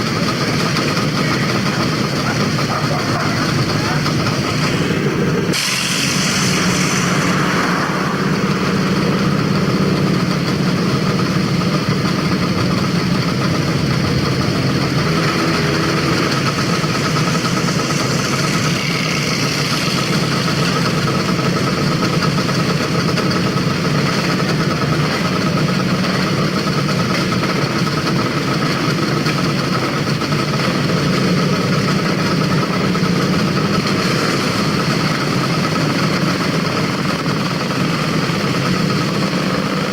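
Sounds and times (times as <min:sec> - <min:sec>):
motorcycle engines running: 0:00.0 - 0:39.9.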